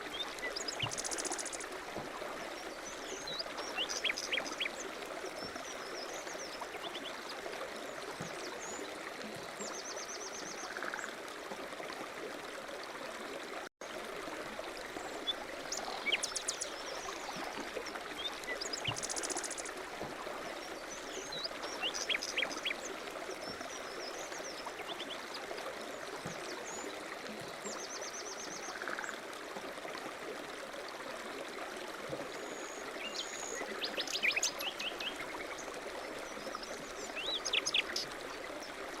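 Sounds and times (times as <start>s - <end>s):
stream water trickling: 0.0s - 39.0s.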